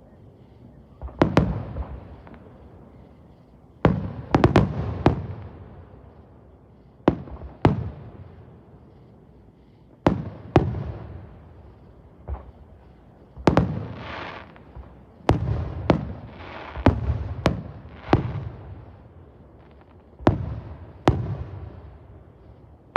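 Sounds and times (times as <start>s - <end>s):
fireworks bangs: 0.0s - 22.9s.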